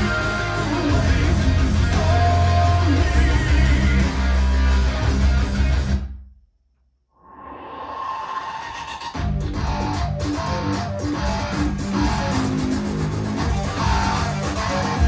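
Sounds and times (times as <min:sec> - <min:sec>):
guitar music with heavy bass: 0:00.0 - 0:06.1, 0:09.0 - 0:15.0.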